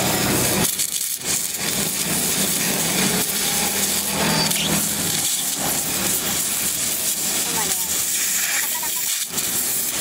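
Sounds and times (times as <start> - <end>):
welding torch flame hissing: 0.0 - 10.0.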